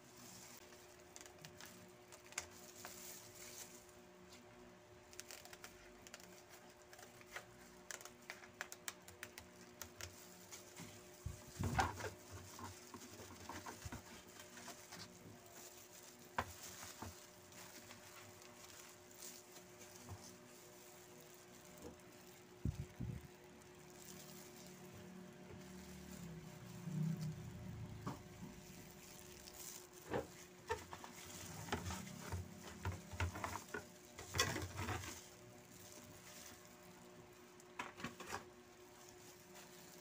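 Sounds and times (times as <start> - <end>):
faint steady hum: 0.0 - 40.0
rice paper crinkling and rustling: 0.0 - 40.0.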